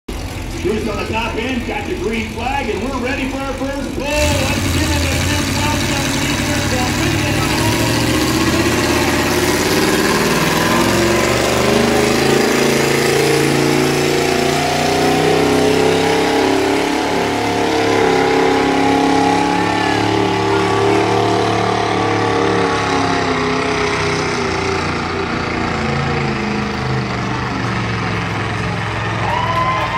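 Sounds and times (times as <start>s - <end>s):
tractor engine running under load: 0.1s - 17.7s, 20.0s - 29.6s.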